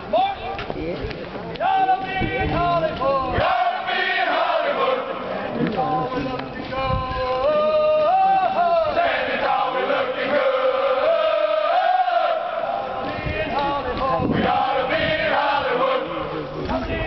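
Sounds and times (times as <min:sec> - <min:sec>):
men chanting marching cadence: 0:01.6 - 0:17.0.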